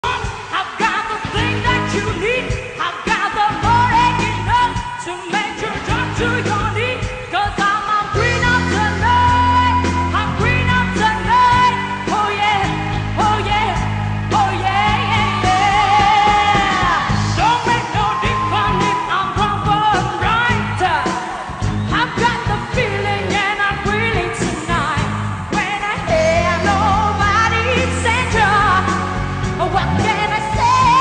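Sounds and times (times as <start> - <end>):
band playing: 0.0 - 31.0
woman singing pop vocal: 0.0 - 31.0.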